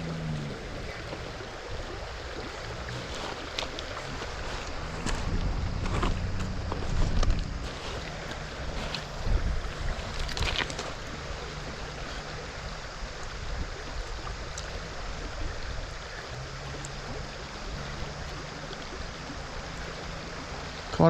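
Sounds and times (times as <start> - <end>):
river running over gravel: 0.0 - 21.0.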